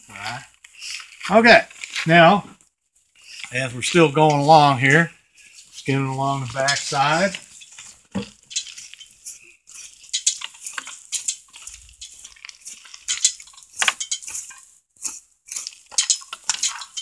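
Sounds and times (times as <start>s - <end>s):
knife scraping hide: 3.1s - 17.0s.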